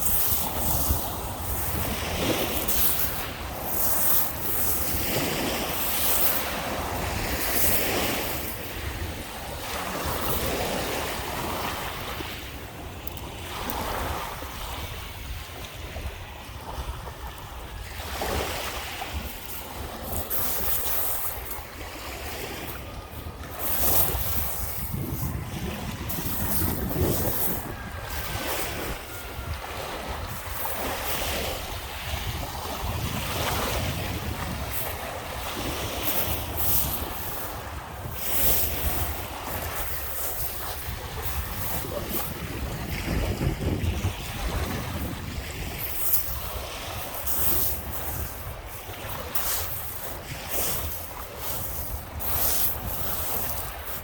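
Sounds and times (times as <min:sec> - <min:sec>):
small waves breaking: 0:00.0 - 0:54.0
wind rumbling on microphone: 0:00.0 - 0:54.0.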